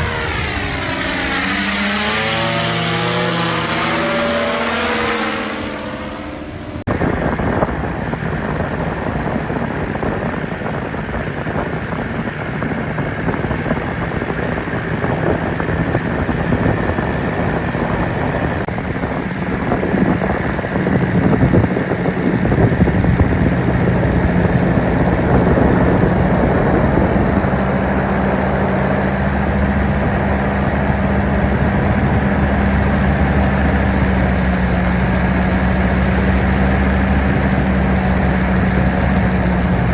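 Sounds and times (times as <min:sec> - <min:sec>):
paramotor engine running: 0:00.0 - 0:39.9
wind noise on microphone: 0:00.0 - 0:39.9.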